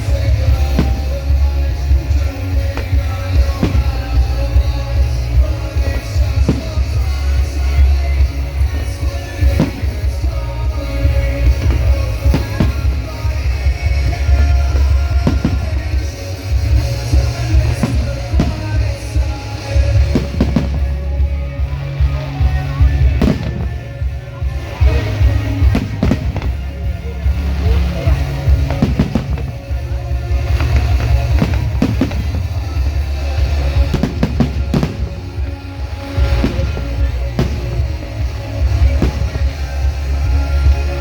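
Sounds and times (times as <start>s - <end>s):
fireworks banging: 0.0s - 41.0s
loud bass-heavy music: 0.0s - 41.0s.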